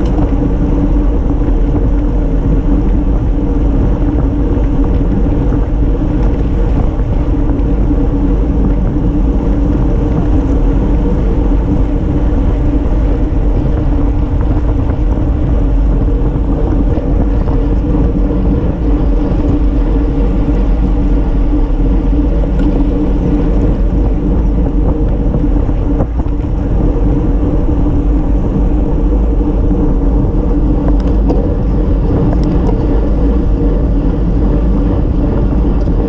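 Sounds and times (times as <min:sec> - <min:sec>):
tyres rumbling on asphalt: 0:00.0 - 0:36.0
wind rushing over microphone: 0:00.0 - 0:36.0.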